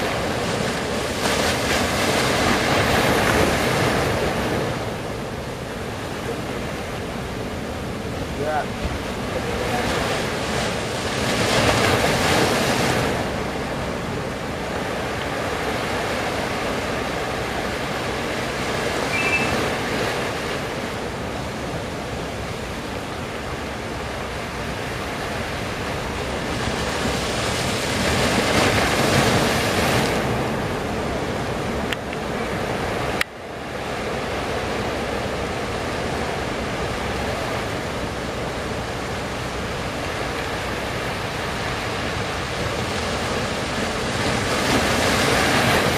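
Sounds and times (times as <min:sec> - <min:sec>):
surf waves breaking ashore: 0:00.0 - 0:45.9.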